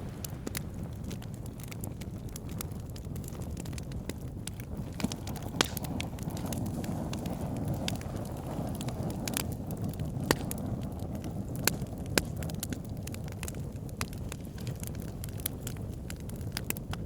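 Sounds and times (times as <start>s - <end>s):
fire pops and snaps: 0.0s - 17.0s
low rush of flames: 0.0s - 17.0s
wood fire crackling: 0.0s - 17.0s.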